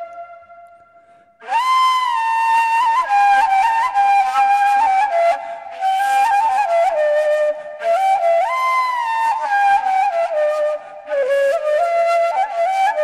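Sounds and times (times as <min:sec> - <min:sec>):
reed flute melody: 0:00.0 - 0:13.0.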